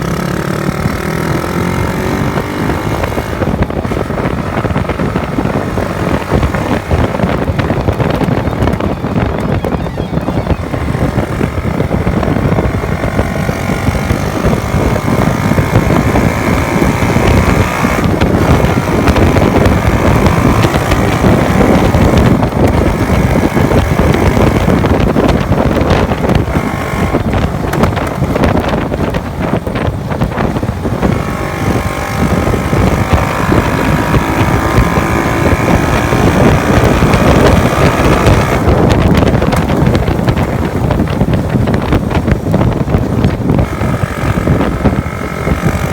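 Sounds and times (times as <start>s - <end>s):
motorcycle engine running: 0.0s - 45.9s
wind buffeting microphone: 0.0s - 45.9s.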